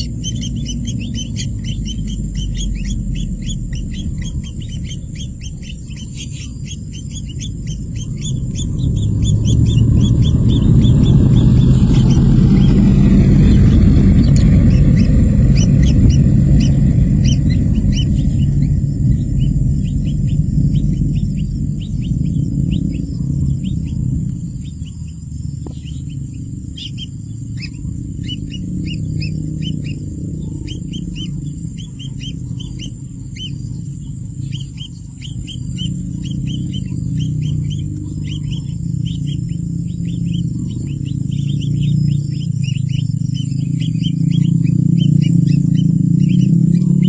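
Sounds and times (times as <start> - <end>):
low rumble: 0.0 - 47.0
small birds chirping: 0.0 - 47.0.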